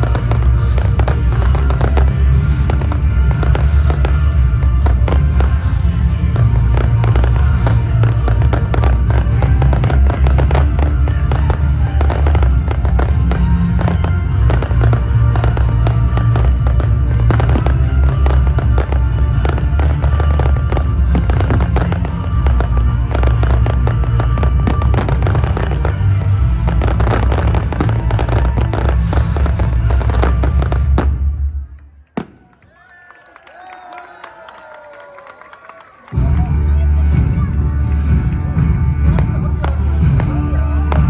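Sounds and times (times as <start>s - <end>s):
loud music with heavy bass: 0.0s - 31.4s, 36.2s - 41.0s
fireworks bangs and crackles: 0.0s - 32.8s, 35.7s - 41.0s.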